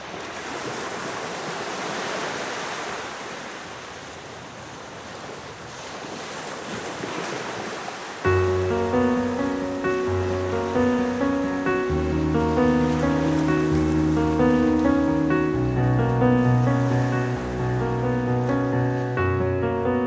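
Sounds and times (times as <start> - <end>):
waves washing in: 0.0 - 20.0.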